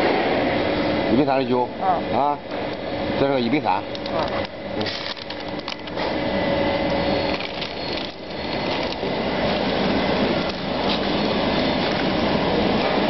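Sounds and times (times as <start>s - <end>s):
baking machine belt drive running: 1.2s - 13.0s.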